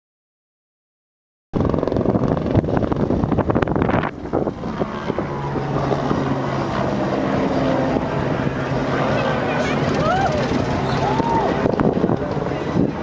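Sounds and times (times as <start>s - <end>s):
motor hum: 1.6s - 13.0s
wind buffeting microphone: 1.6s - 13.0s.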